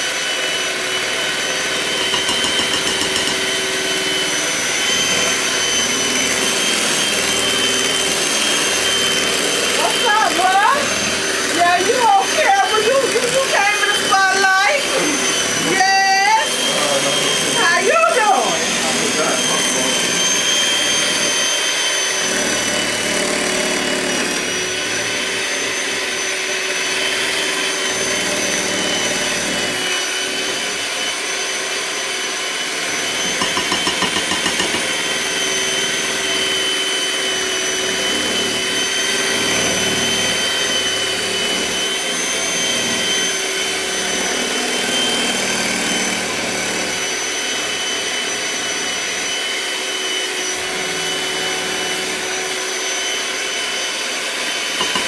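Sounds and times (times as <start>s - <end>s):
electric mixer whining: 0.0s - 55.0s.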